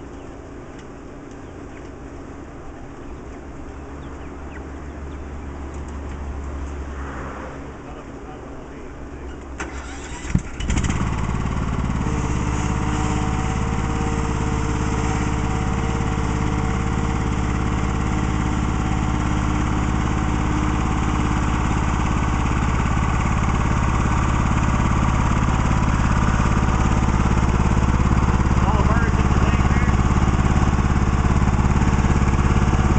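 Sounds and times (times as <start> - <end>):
riding lawn mower engine running: 0.0 - 32.9.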